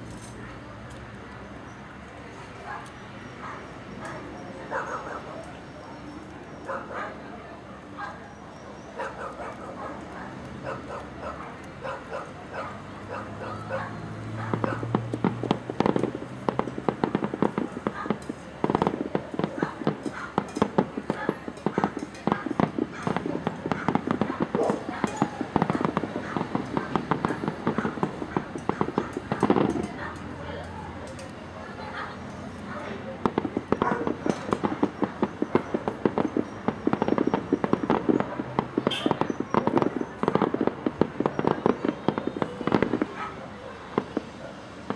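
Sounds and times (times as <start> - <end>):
fireworks crackling: 8.9 - 44.9.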